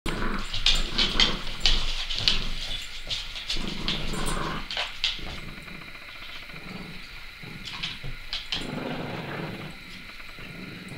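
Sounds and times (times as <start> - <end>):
dogs growling: 0.1 - 10.9
dogs scuffling: 0.1 - 10.9.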